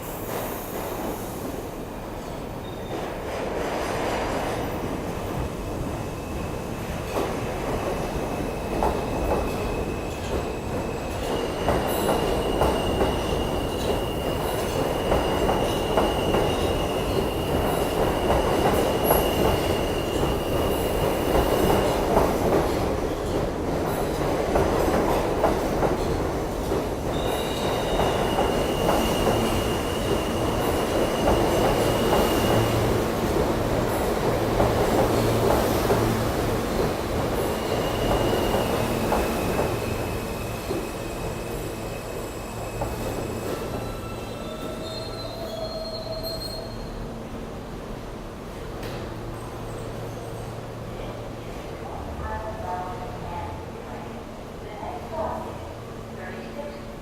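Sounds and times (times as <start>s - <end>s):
subway train rumbling on rails: 0.0s - 57.0s.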